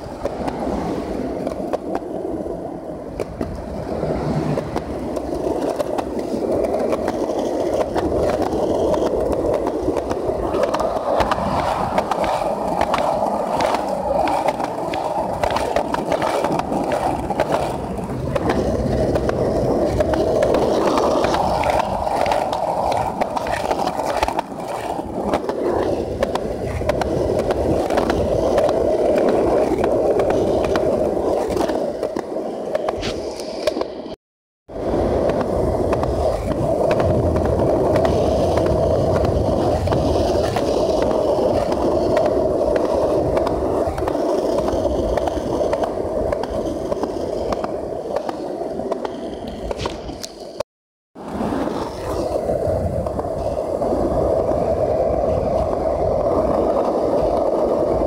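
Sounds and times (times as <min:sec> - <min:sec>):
skateboard wheels clacking over joints: 0:00.0 - 0:50.6, 0:51.2 - 0:58.0
skateboard wheels rolling on concrete: 0:00.0 - 0:50.6, 0:51.2 - 0:58.0.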